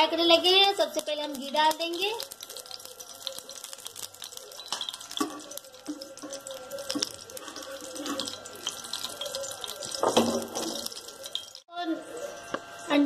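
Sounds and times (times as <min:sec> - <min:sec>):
ghee sizzling on a hot pan: 0:00.0 - 0:13.0.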